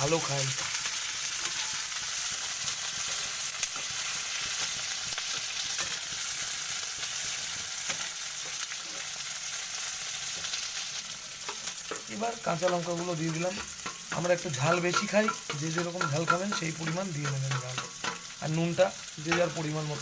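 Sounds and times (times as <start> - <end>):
oil sizzling in a pan: 0.0 - 20.0.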